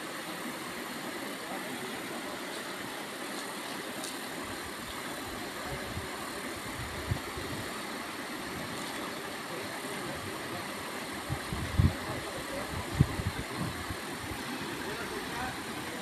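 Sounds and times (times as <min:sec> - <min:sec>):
river water running over rocks: 0:00.0 - 0:16.0.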